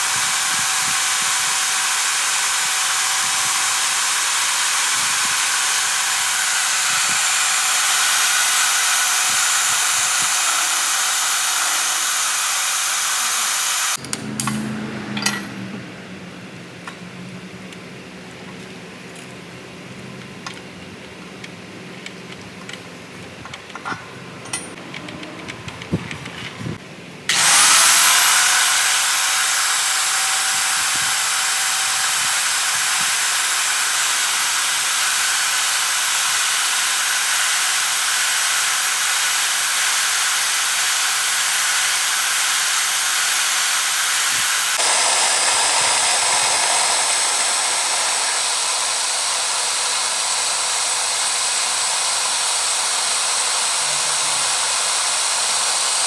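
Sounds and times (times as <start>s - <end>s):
power tool motor whine: 0.0s - 15.9s, 25.0s - 56.0s.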